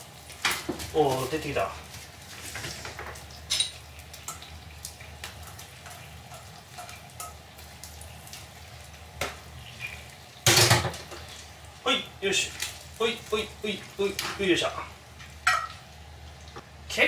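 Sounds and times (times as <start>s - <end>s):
fish sizzling in frying pan: 0.0s - 17.0s.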